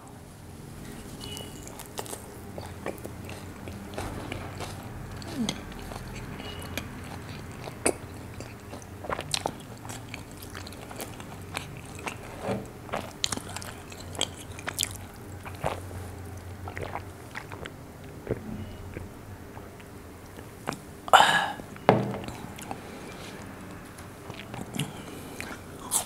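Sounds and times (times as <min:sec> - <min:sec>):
faint low hum: 0:00.0 - 0:26.0
close-miked chewing: 0:00.9 - 0:20.9, 0:22.2 - 0:26.0.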